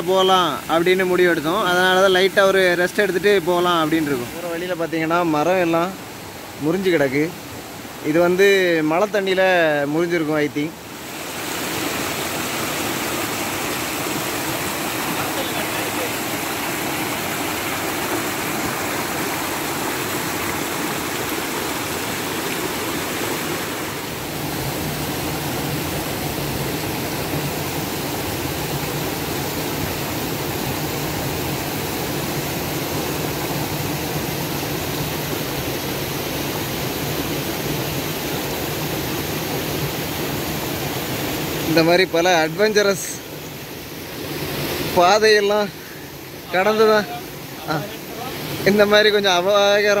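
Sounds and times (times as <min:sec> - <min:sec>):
mountain stream rushing: 0:00.0 - 0:50.0.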